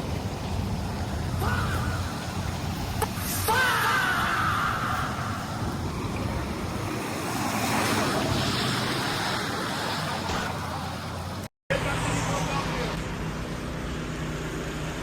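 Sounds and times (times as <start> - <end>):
constant wash of noise: 0.0 - 15.0
engine running steadily: 0.0 - 15.0.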